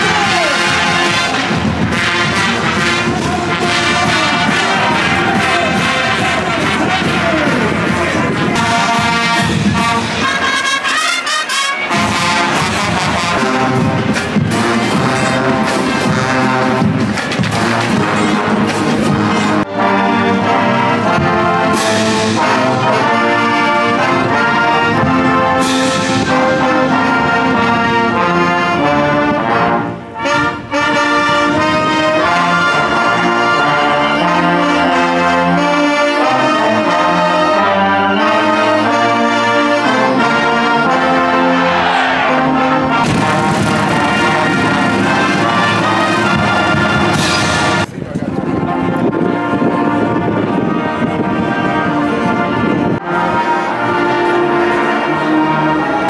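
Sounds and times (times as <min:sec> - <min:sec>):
brass sustained chords: 0:00.0 - 0:47.9, 0:48.5 - 0:56.0
marching band playing: 0:00.0 - 0:56.0.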